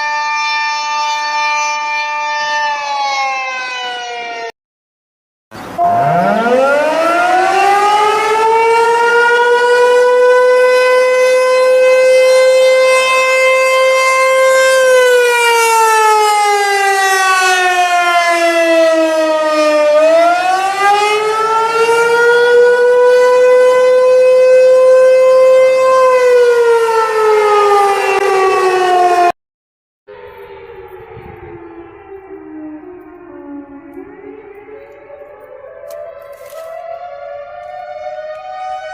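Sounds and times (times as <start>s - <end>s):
civil defense siren wailing: 0.0s - 4.6s, 5.6s - 29.4s, 30.1s - 38.9s.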